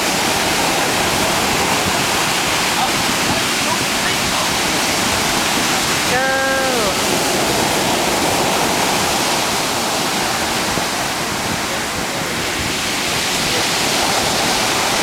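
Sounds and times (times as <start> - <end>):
surf breaking on sand: 0.0 - 15.0.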